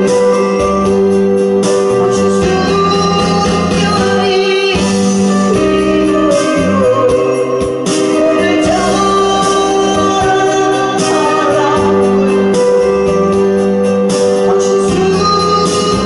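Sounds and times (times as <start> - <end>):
electronic keyboard backing: 0.0 - 16.0
woman singing into a microphone: 0.0 - 16.0.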